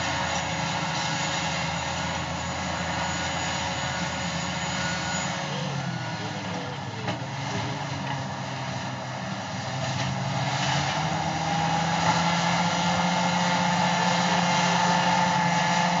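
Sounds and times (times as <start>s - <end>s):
bulldozer diesel engine under load: 0.0s - 16.0s
high whine: 0.0s - 16.0s.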